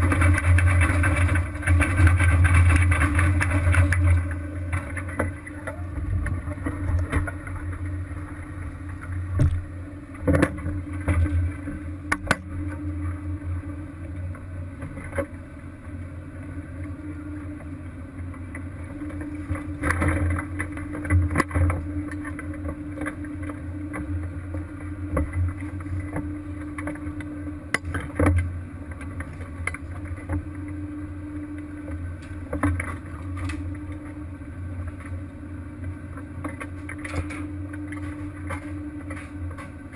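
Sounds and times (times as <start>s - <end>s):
boat engine and deck machinery: 0.0s - 39.9s.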